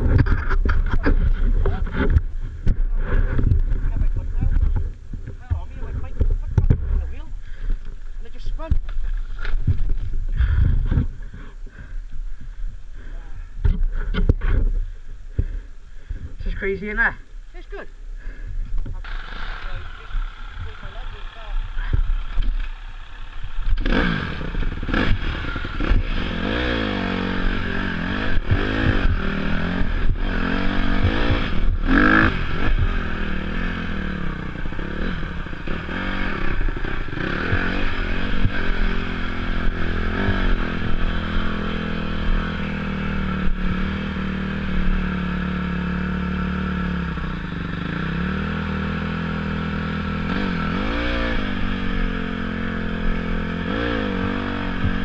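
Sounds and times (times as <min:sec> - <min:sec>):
off-road motorcycle engine revving: 0:00.0 - 0:12.0, 0:16.4 - 0:55.0.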